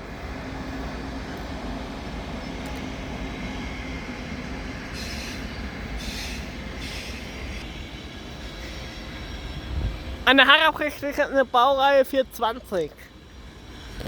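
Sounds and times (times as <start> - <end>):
low locomotive hum: 0.0 - 14.0
train rolling rumble: 0.0 - 14.0.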